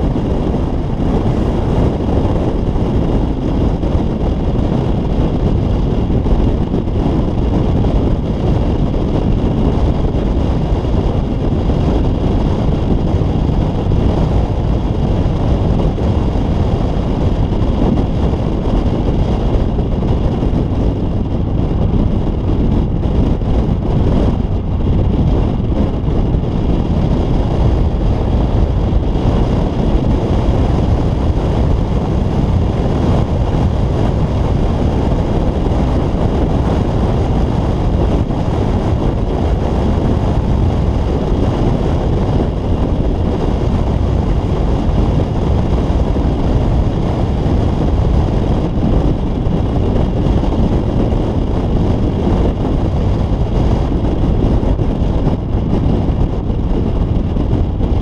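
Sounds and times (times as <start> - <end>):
pickup truck road noise: 0.0 - 58.0
wind buffeting microphone: 0.0 - 58.0.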